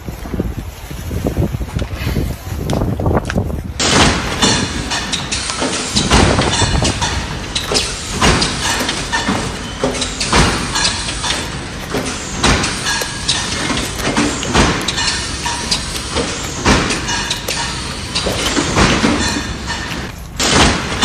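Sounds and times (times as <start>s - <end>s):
conveyor cups knocking: 3.8s - 21.0s
grading machine clatter: 3.8s - 21.0s.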